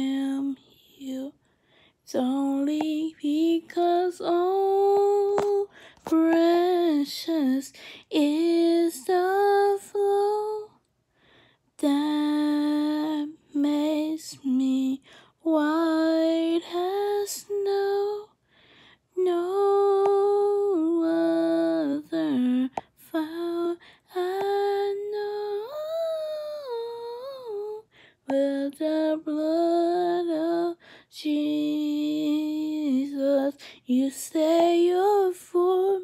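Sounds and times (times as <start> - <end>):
woman singing unaccompanied: 0.0 - 1.4, 2.1 - 10.8, 11.8 - 18.3, 19.1 - 36.0.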